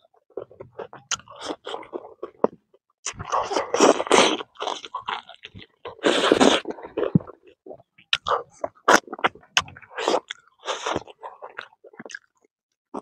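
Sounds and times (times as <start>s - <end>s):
person chewing and crunching meat: 0.2s - 13.0s.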